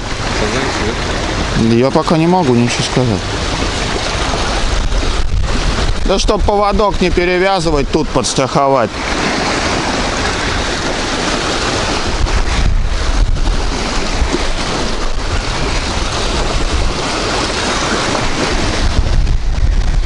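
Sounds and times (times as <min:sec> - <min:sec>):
strong wind buffeting microphone: 0:00.0 - 0:20.0.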